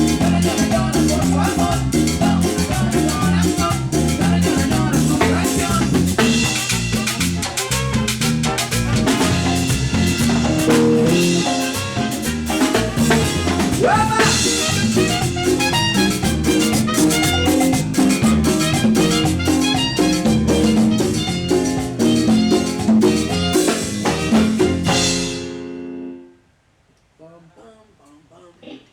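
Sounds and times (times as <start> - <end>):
live band playing latin dance music: 0.0 - 25.9.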